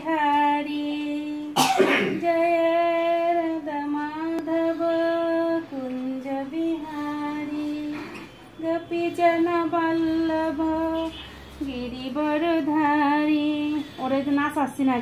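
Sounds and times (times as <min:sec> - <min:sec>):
woman singing slow melody: 0:00.0 - 0:14.3.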